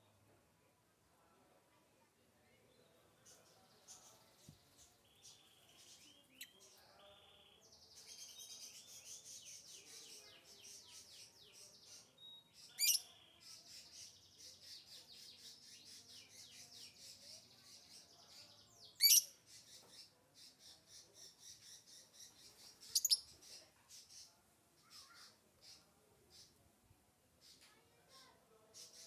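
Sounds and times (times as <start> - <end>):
bird chirping: 2.8 - 26.6.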